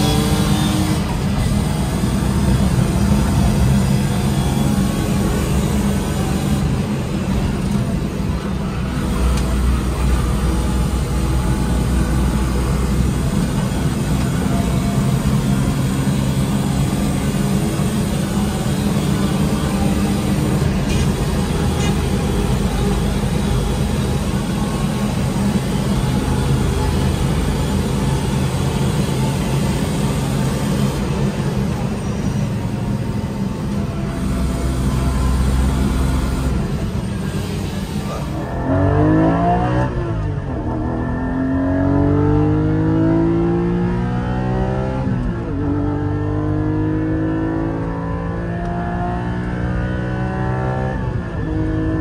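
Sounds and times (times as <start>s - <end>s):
car engine droning: 0.0s - 52.0s
road and wind noise: 0.0s - 52.0s.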